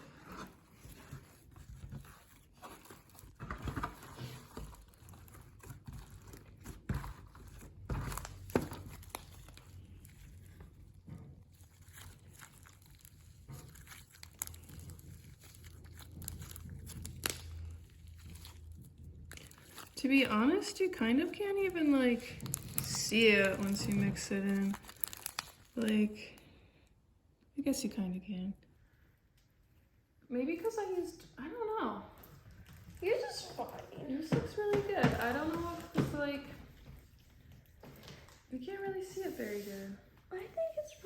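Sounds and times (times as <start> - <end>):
slime handling sounds: 0.0 - 26.6, 32.1 - 41.0.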